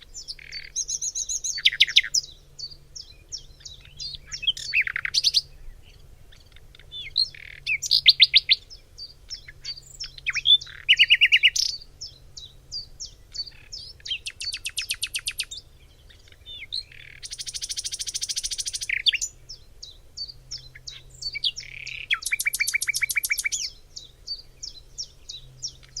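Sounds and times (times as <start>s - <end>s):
nightingale singing: 0.0s - 26.0s.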